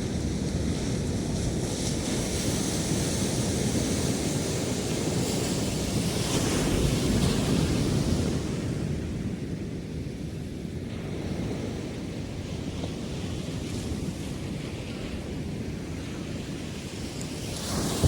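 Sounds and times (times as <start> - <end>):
ocean surf breaking on beach: 0.0 - 18.0
wind on microphone: 0.0 - 18.0.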